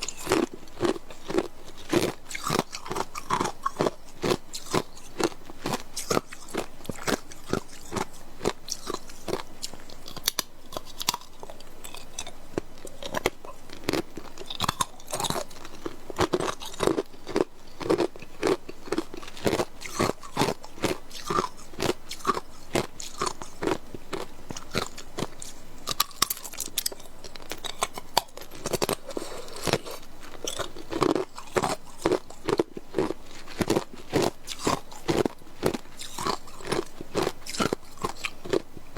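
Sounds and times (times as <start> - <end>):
ice cubes crunching: 0.0 - 38.6.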